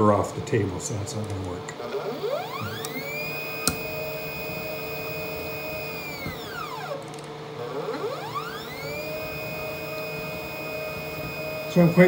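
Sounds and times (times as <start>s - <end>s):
stepper motor whining: 1.7s - 12.0s.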